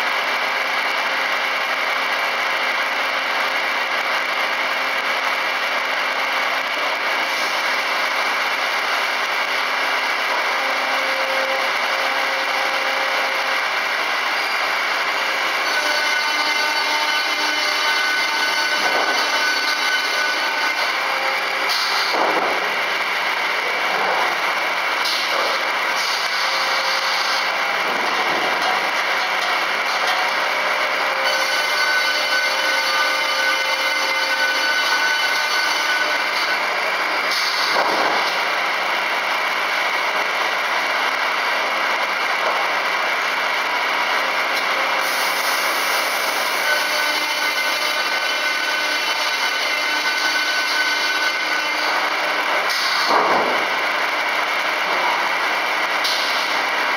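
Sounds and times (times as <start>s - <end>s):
circular saw running: 0.0s - 56.9s.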